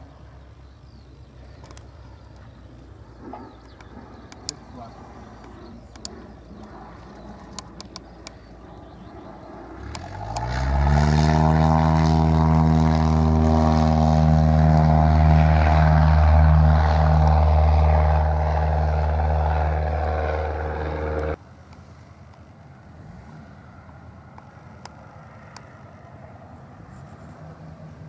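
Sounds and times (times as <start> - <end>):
light aircraft engine and propeller: 0.0 - 28.0.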